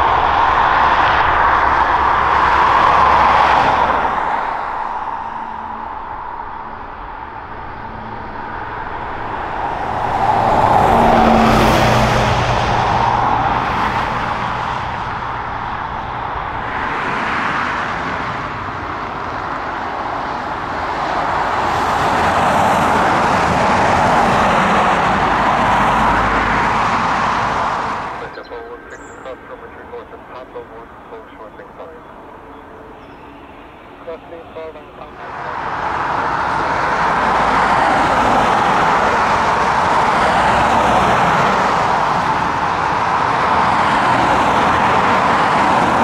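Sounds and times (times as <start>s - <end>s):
jet engine rushing: 0.0s - 32.9s, 33.6s - 46.0s.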